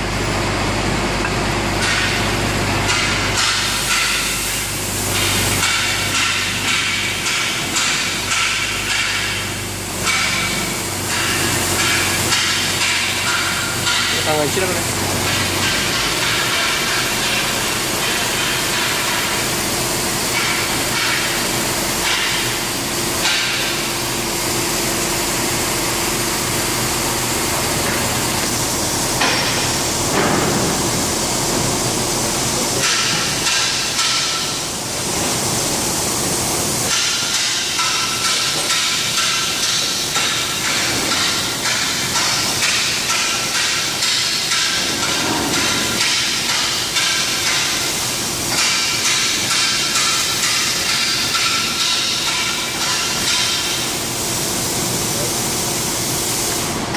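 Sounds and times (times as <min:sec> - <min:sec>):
workshop hissing rush: 0:00.0 - 0:56.9.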